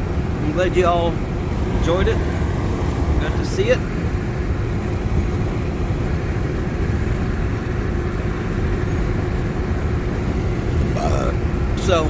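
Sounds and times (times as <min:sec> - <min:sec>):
car road and engine noise: 0:00.0 - 0:12.0
faint steady hum: 0:00.0 - 0:12.0.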